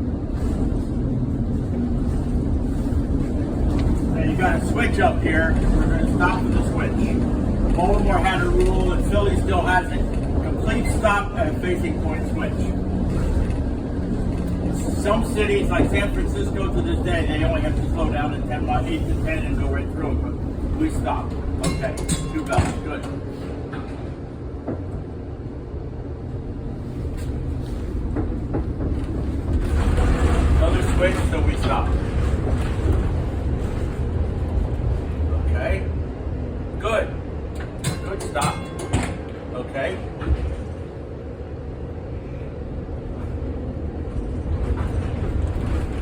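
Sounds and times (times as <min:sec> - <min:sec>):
streetcar rumbling: 0:00.0 - 0:46.0.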